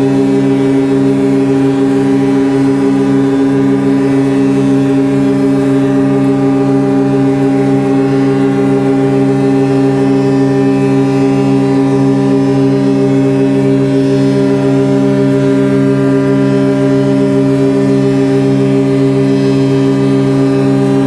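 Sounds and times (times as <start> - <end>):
ship's fog horn blast: 0.0 - 21.0.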